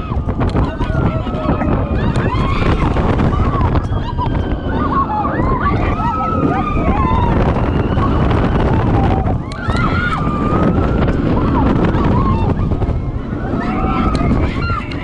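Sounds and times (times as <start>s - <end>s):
riders screaming and whooping: 0.0s - 15.0s
roller coaster rumble: 0.0s - 15.0s
wind buffeting microphone: 0.0s - 15.0s.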